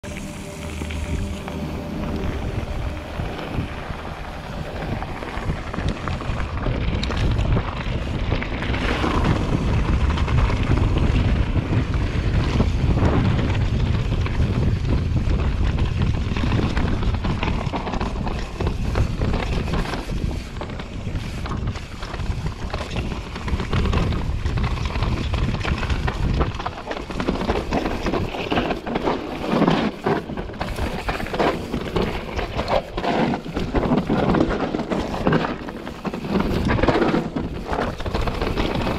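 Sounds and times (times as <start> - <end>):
bike tyre noise on dirt: 0.0 - 38.9
wind rumbling on microphone: 0.0 - 38.9
bike rattling and knocking: 2.9 - 38.9.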